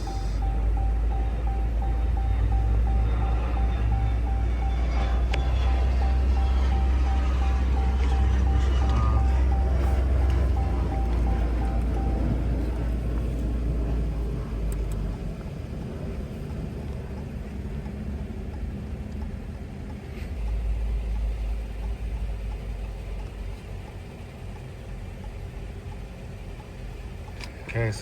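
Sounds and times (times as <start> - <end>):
car rumbling: 0.0 - 28.0.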